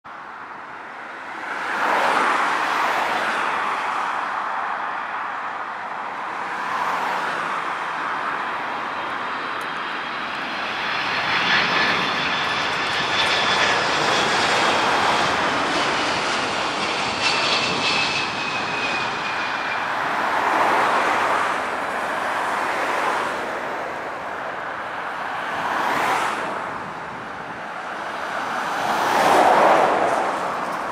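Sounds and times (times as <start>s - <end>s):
jet engines rushing overhead: 0.1s - 30.9s.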